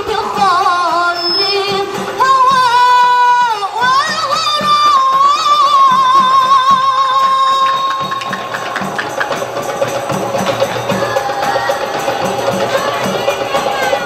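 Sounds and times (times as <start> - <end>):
hand drums beating: 1.6 - 14.0.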